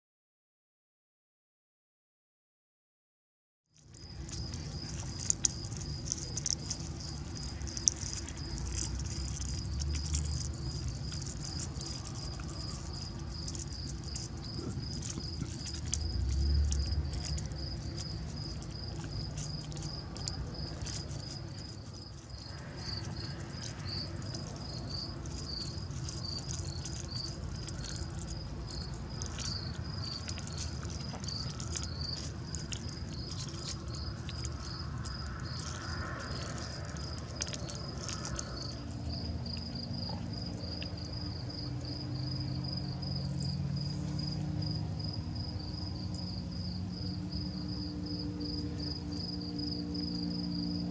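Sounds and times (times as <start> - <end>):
insect chirping: 3.8 - 50.9.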